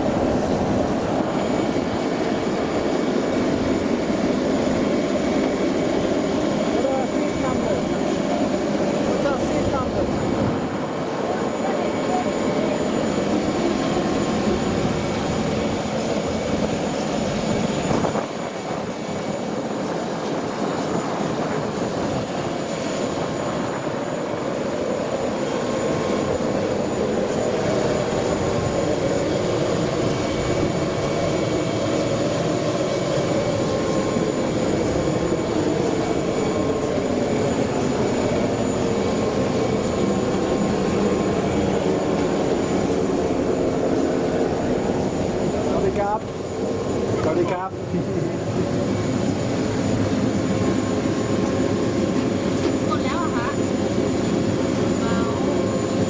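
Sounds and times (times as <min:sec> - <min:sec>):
jet airliner rumble: 0:00.0 - 0:56.0.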